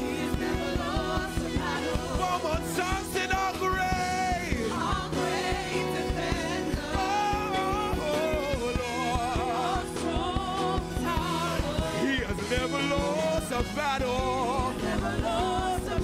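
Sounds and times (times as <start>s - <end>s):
bass guitar: 0.0s - 16.0s
group singing gospel song: 0.0s - 16.0s
steady drum beat: 0.0s - 16.0s.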